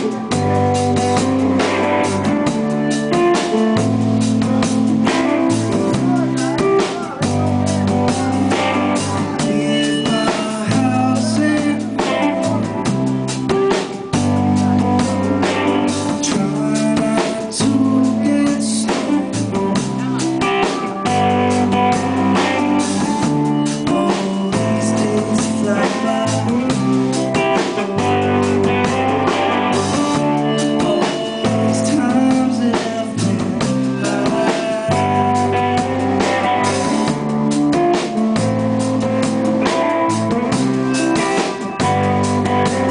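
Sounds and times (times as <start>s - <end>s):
bass guitar: 0.0s - 42.9s
drum kit: 0.0s - 42.9s
electric guitar: 0.0s - 42.9s.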